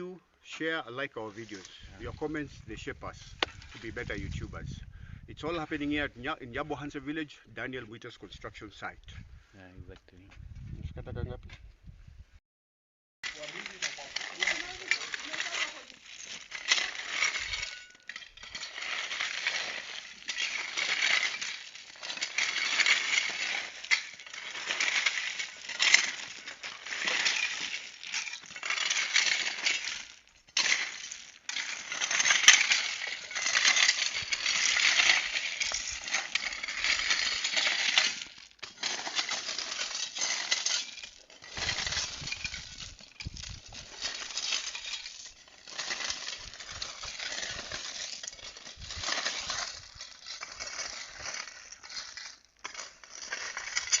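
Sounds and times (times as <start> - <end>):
gravel crunching against metal tool: 0.0 - 10.4, 13.2 - 54.0.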